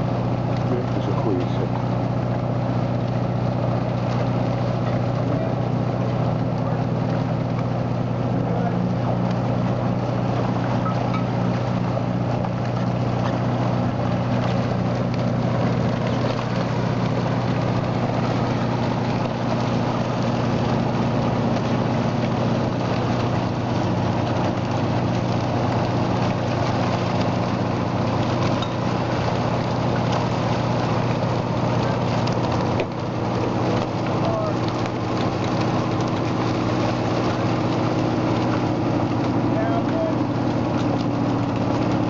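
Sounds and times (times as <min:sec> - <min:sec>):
boat engine humming: 0:00.0 - 0:42.0
fish and water splashing: 0:00.0 - 0:42.0.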